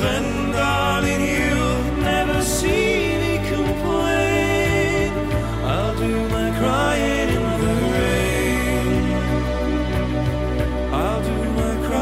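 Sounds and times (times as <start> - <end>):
new-age music tones: 0.0 - 12.0
steady low drone: 0.0 - 12.0.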